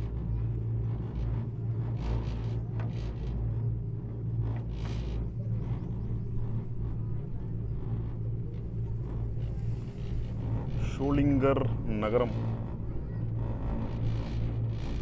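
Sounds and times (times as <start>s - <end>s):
cable car cabin rumble: 0.0s - 15.0s.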